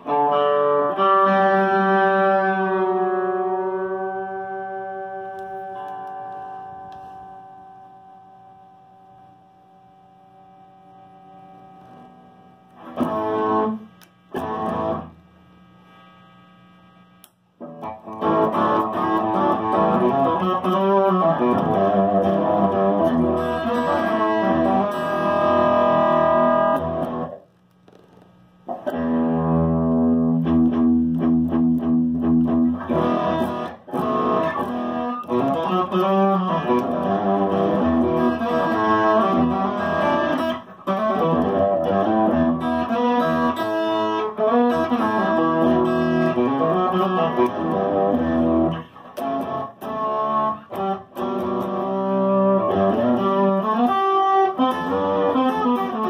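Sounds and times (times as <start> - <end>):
overdriven electric guitar chords: 0.0 - 15.3, 17.2 - 28.0, 28.6 - 56.0.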